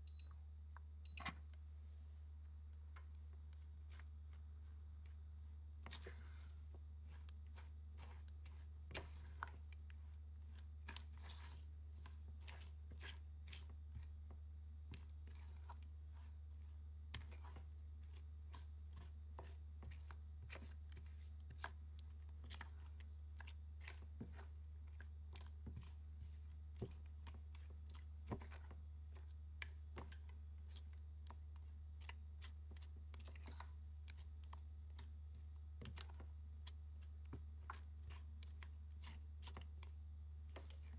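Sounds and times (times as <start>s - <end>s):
spatula stirring thick puree: 1.2s - 40.9s.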